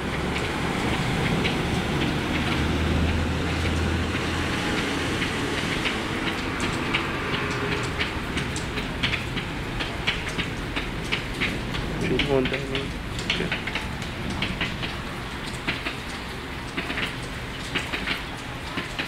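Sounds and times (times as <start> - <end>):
heavy rain pouring: 0.0 - 19.0
drops ticking on a hard surface: 0.1 - 19.0.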